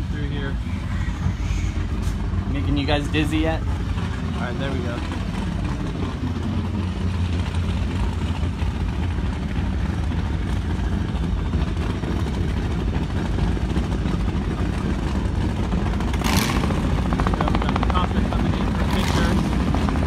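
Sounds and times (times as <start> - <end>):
powerboat engines rumbling: 0.0 - 20.0.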